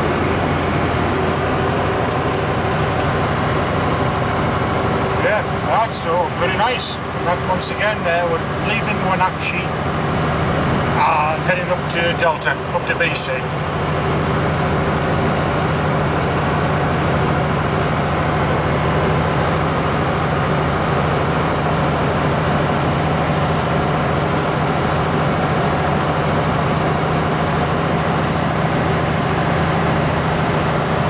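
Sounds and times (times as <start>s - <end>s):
road noise: 0.0s - 31.0s
truck diesel engine droning: 0.0s - 31.0s.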